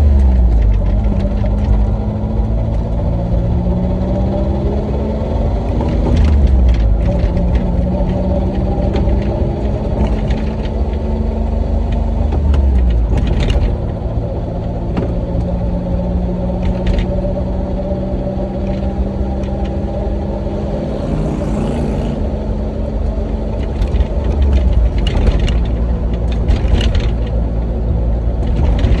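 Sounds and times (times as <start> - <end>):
engine low rumble: 0.0 - 29.0.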